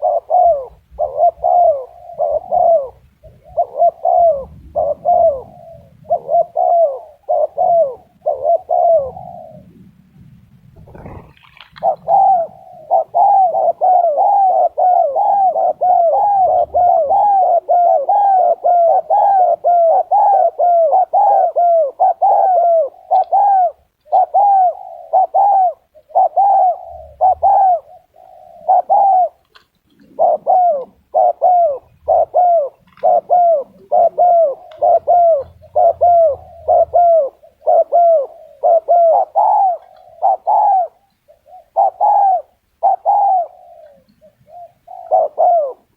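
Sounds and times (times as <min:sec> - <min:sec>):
dove cooing: 0:00.0 - 0:09.9, 0:10.7 - 0:45.9.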